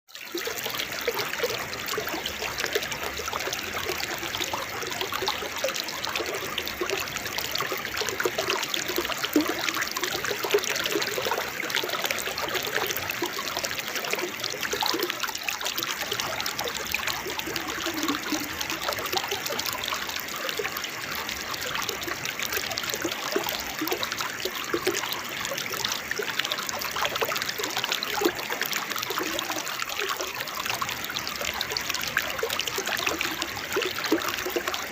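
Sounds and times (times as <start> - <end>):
small waterfall splashing: 0.1 - 34.9
water bubbling gurgles: 0.1 - 34.9.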